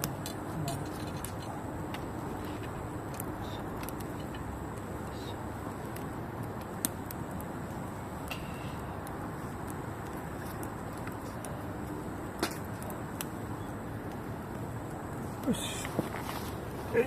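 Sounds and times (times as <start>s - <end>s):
campfire burning rush: 0.0s - 17.0s
fire pops and crackles: 0.0s - 17.0s.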